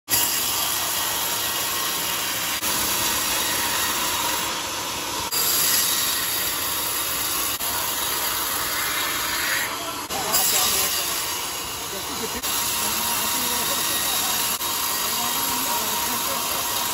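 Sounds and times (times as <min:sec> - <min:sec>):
band saw cutting through log: 0:00.1 - 0:16.9.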